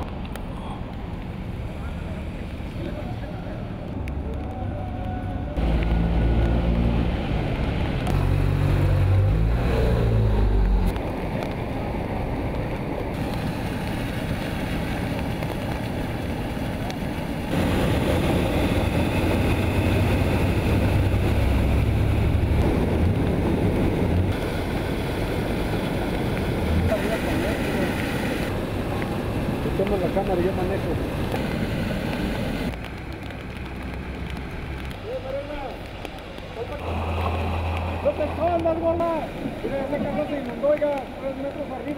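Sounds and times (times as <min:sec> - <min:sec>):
steady rushing noise: 0:00.0 - 0:41.9.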